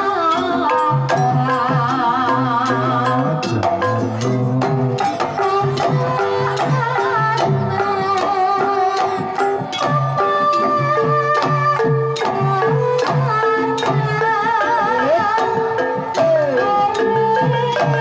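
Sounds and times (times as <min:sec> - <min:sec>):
ringing metallophones and gongs: 0:00.0 - 0:18.0.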